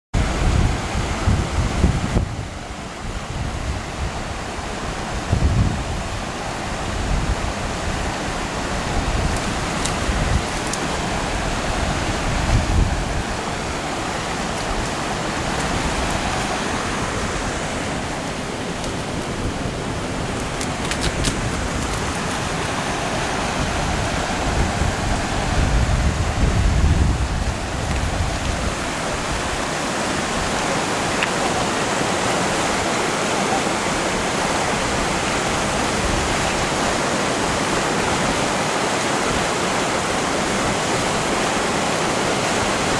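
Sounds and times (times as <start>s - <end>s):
river water rushing: 0.2s - 42.9s
wind buffeting microphone: 0.2s - 42.9s.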